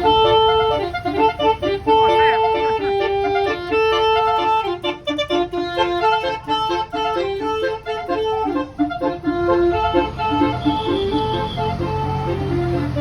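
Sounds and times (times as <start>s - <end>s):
low engine rumble: 0.0s - 13.0s
multi-note bus horn melody: 0.0s - 13.0s.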